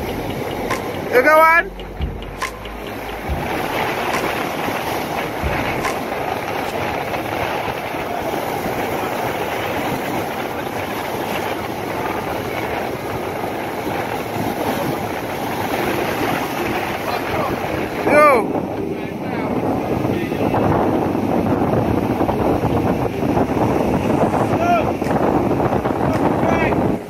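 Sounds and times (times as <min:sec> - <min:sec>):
sea surf breaking on rocks: 0:00.0 - 0:27.0.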